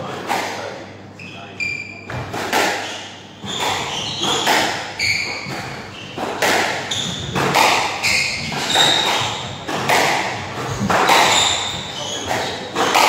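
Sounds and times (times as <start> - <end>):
shoe squeaks on wooden floor: 1.2 - 9.6, 10.7 - 13.0
squash ball hits echoing: 2.1 - 13.0.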